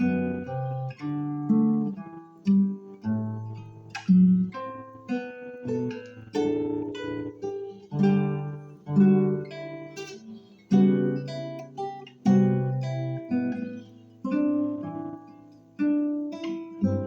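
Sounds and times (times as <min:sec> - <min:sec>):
classical guitar playing: 0:00.0 - 0:17.0.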